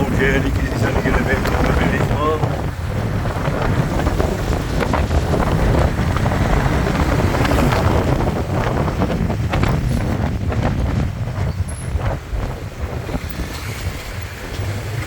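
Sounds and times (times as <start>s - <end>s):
motorbike engine and road noise: 0.0s - 15.0s
wind buffeting microphone: 0.0s - 15.0s.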